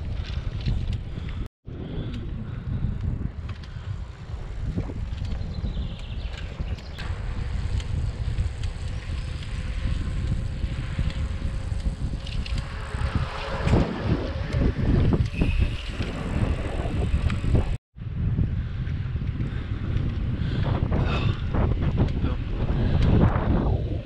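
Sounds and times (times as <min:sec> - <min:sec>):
wind buffeting the microphone: 0:00.0 - 0:24.0.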